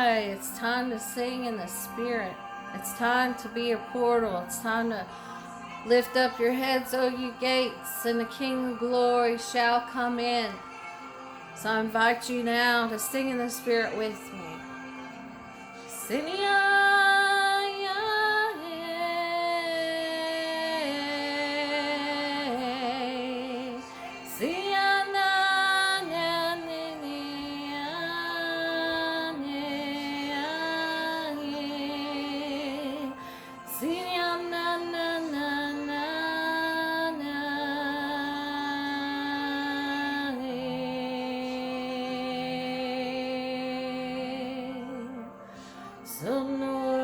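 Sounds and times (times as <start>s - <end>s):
woman singing wordless held notes: 0.0s - 10.8s, 11.5s - 14.6s, 15.9s - 47.0s.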